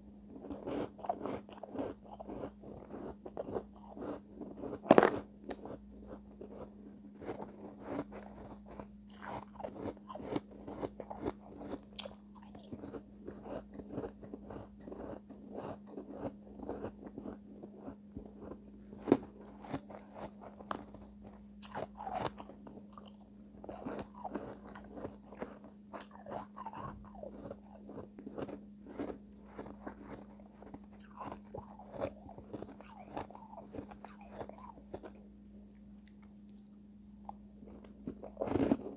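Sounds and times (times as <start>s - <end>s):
chewing crunchy ice: 0.3s - 35.3s, 36.0s - 38.9s.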